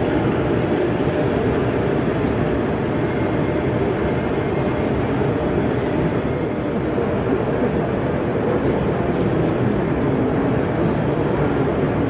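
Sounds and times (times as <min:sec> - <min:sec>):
exhibition hall background rumble: 0:00.0 - 0:12.0.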